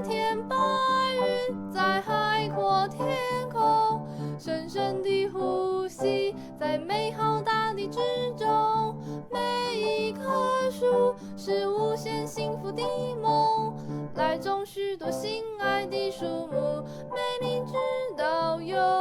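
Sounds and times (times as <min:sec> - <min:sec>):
gentle pop song: 0:00.0 - 0:19.0.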